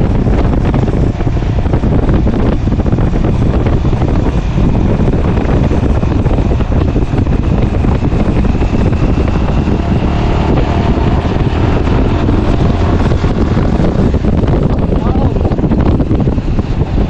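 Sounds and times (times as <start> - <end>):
motorcycle running noise: 0.0 - 17.0
wind buffeting microphone: 0.0 - 17.0.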